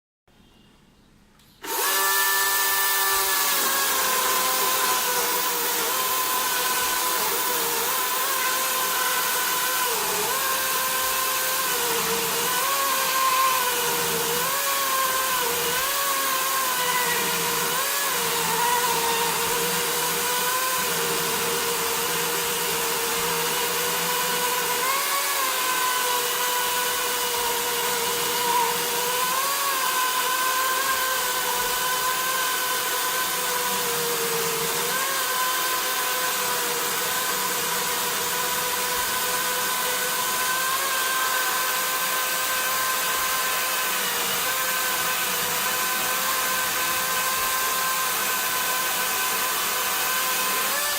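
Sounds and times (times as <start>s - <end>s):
electric chainsaw whining: 1.6s - 50.9s.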